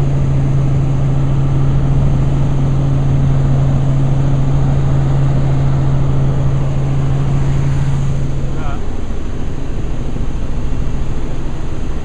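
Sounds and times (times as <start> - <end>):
helicopter cabin drone: 0.0 - 12.0.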